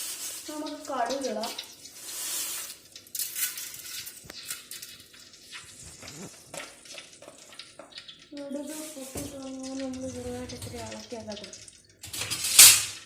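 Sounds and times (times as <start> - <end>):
seeds sizzling and popping in oil: 0.0 - 13.0.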